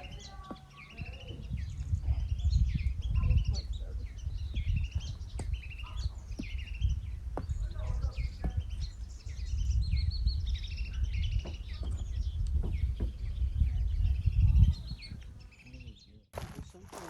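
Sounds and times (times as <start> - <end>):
low uneven rumble: 0.0 - 15.8
small birds chirping: 0.0 - 16.8.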